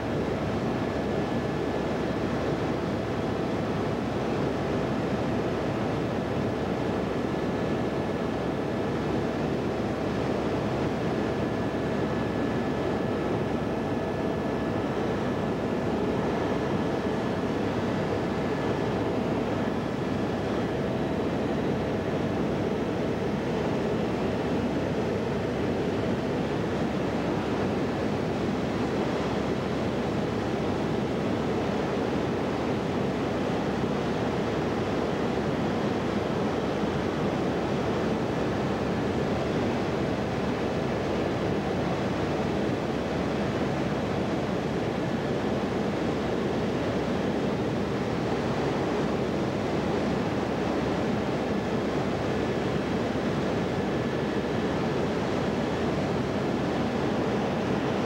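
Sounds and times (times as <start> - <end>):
helicopter engine and rotors drone: 0.0 - 58.0.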